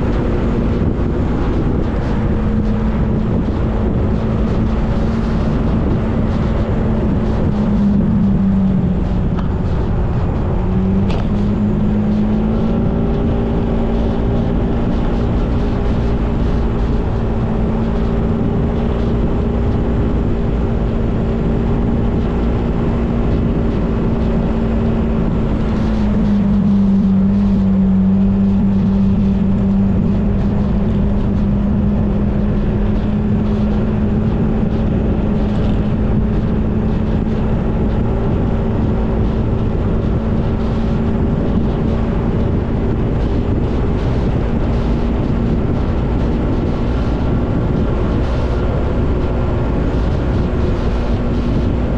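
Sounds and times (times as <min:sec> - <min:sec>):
motorcycle engine running: 0:00.0 - 0:51.9
wind rumble on microphone: 0:00.0 - 0:51.9.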